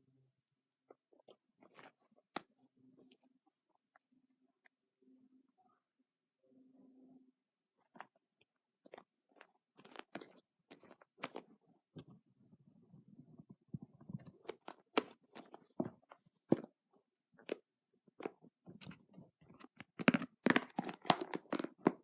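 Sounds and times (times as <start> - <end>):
low slime squishing: 0.9 - 4.7, 7.7 - 22.0.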